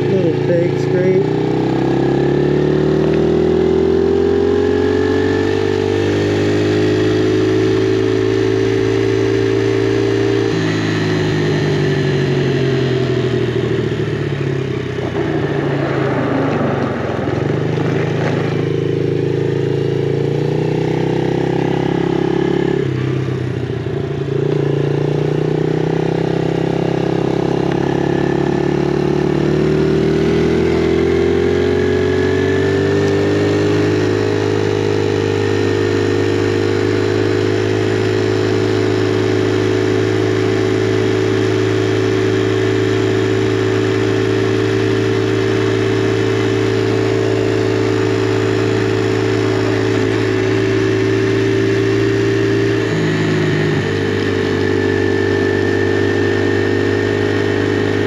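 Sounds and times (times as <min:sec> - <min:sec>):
off-road motorcycle engine revving: 0:00.0 - 0:58.0.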